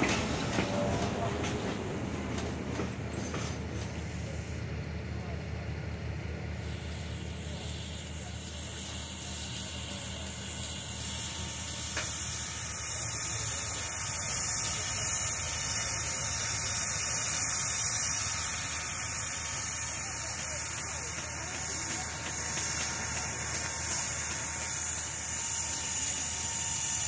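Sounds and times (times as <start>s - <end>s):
steam locomotive hissing: 0.0s - 27.0s.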